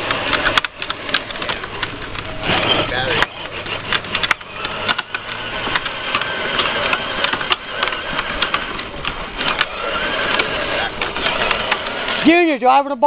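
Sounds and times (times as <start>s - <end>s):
electric motors whirring: 0.0s - 13.0s
plastic wheels rumbling on pavement: 0.0s - 13.0s.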